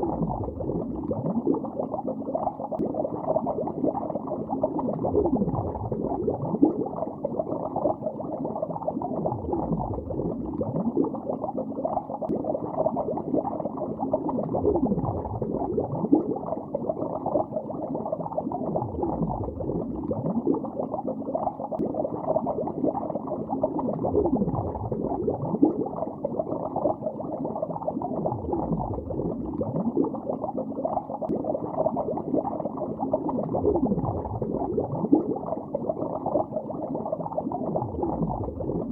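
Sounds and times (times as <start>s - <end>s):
underwater water bubbling: 0.0s - 38.9s.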